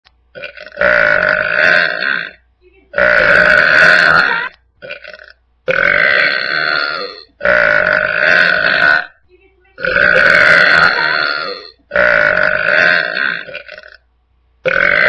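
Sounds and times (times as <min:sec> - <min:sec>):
person burping loudly: 0:00.3 - 0:02.4, 0:03.0 - 0:09.2, 0:09.8 - 0:14.0, 0:14.6 - 0:15.0.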